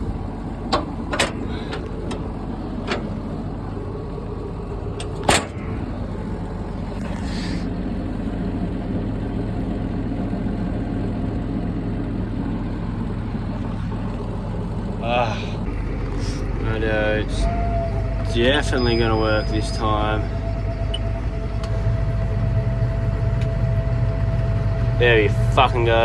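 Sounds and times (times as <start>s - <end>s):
tractor diesel engine humming: 0.0s - 26.0s.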